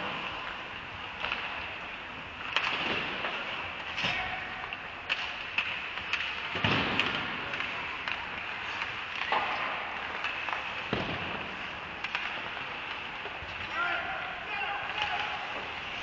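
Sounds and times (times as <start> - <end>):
hockey sticks and puck clacking: 0.0 - 16.0
skates scraping ice: 0.0 - 16.0.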